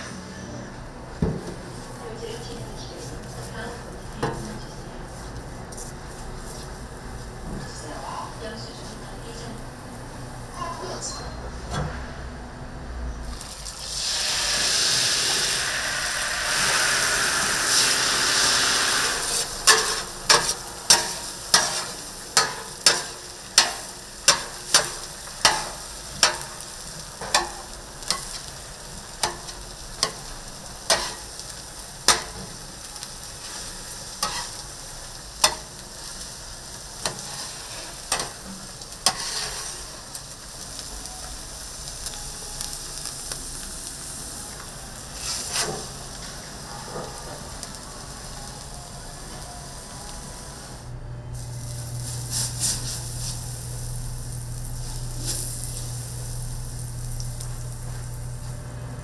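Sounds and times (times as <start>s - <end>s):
food sizzling on a griddle: 1.3s - 10.9s, 13.3s - 59.0s.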